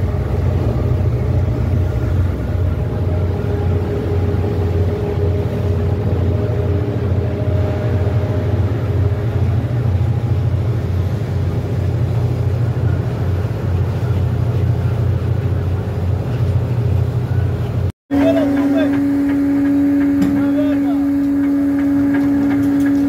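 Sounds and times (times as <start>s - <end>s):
boat engine low drone: 0.0s - 23.0s.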